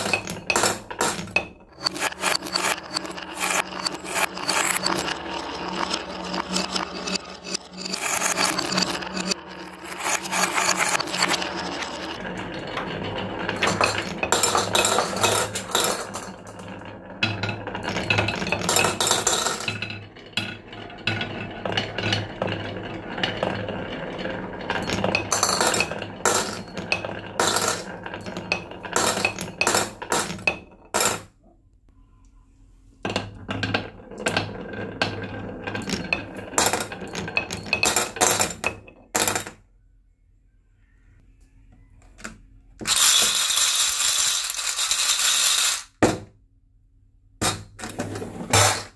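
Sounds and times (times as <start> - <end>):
marbles clicking and clinking: 0.0 - 31.2, 33.6 - 39.5, 42.8 - 46.0
marbles rolling on wooden track: 0.0 - 31.3, 33.1 - 39.6, 42.2 - 46.2, 47.4 - 48.9.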